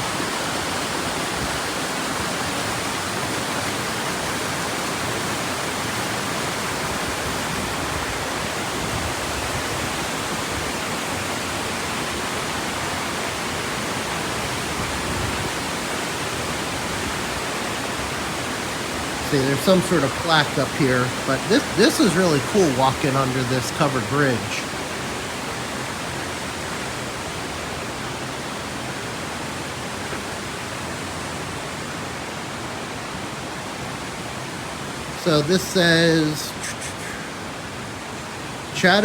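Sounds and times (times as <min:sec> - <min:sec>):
creek water rushing: 0:00.0 - 0:39.0.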